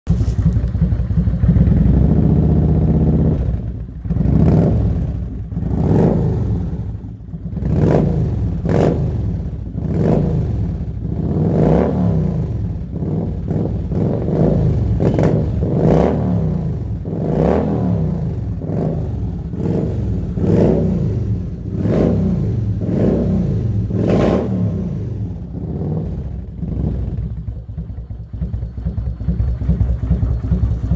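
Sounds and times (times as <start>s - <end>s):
motorcycle engine revving: 0.1s - 30.9s.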